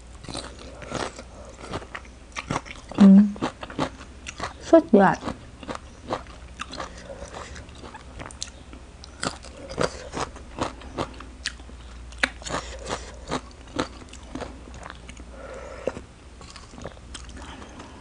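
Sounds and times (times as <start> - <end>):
crisp chewing crunches: 0.2 - 17.9.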